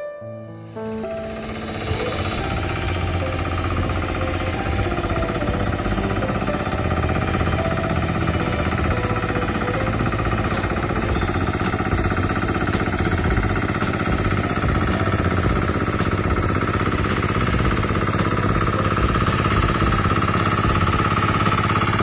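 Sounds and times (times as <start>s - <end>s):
tractor engine under load: 1.3s - 22.0s.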